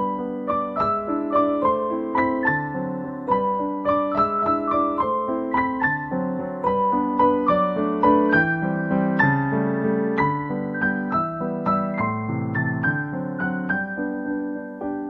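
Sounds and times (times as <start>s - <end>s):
gentle keyboard music: 0.0s - 15.0s.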